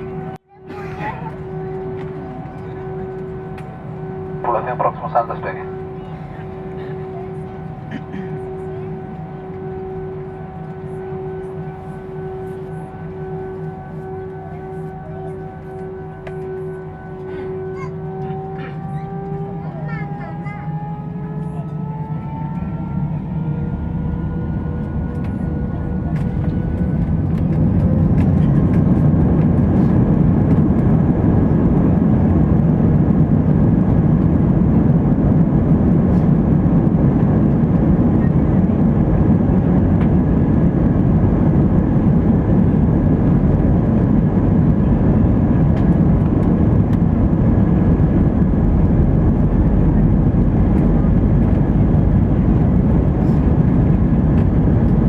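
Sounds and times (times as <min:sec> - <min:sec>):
takeoff thrust rumble: 0:00.9 - 0:15.0, 0:18.4 - 0:55.0.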